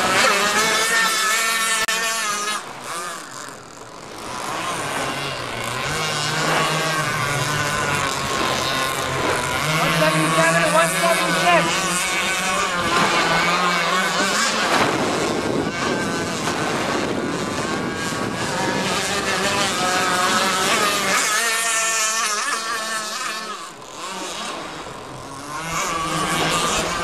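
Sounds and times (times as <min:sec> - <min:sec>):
model boat engines running: 0:00.0 - 0:27.0.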